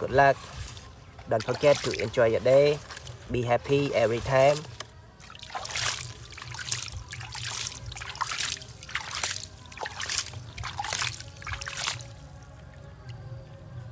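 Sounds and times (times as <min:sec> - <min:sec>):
water splashing and trickling: 0:00.0 - 0:13.8.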